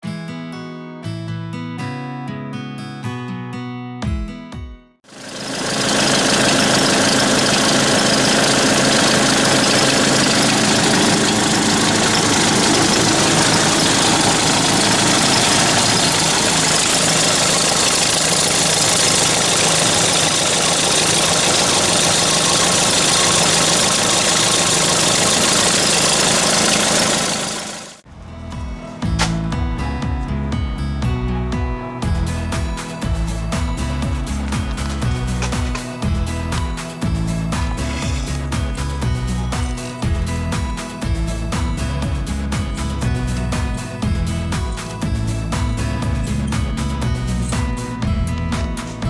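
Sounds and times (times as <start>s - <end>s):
fan belt squealing: 5.1s - 29.9s, 32.0s - 49.0s
diesel tractor engine idling: 5.1s - 49.0s.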